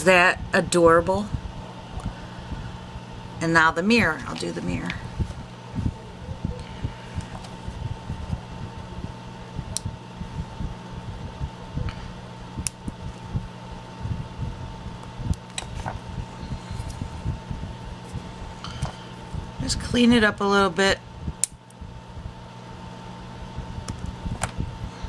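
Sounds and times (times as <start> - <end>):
low hum with high whine: 0.0 - 25.0.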